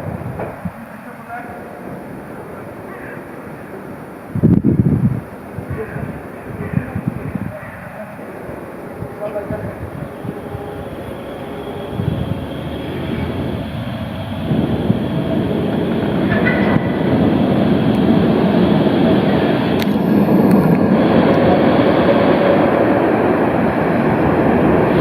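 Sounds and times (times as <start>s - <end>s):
tram rumbling on rails: 0.0s - 25.0s.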